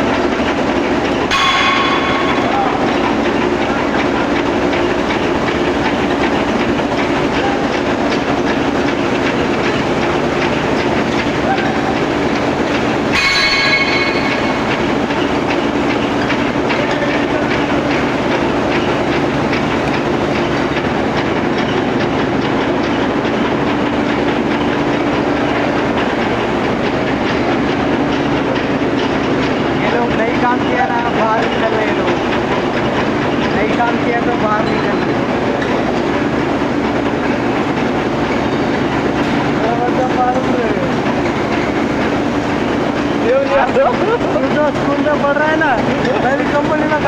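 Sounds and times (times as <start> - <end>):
low machine hum: 0.0 - 47.0
machinery clattering: 0.0 - 47.0.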